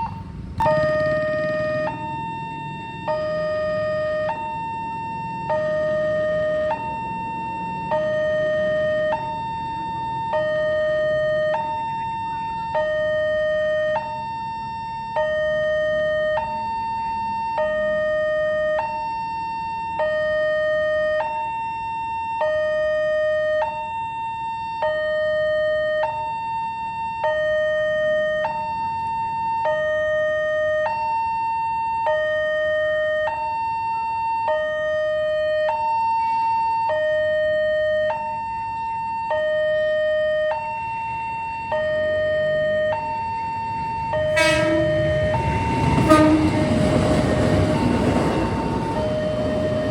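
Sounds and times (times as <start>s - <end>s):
two-tone crossing alarm siren: 0.0s - 49.9s.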